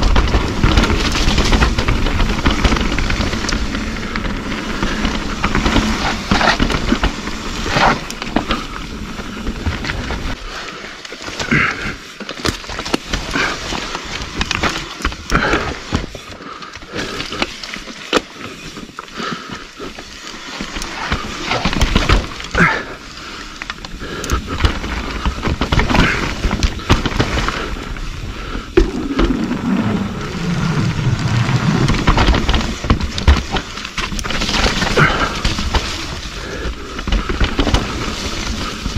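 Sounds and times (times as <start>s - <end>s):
bike clattering over bumps: 0.0s - 38.9s
bike tyres rolling over dirt: 0.0s - 38.9s.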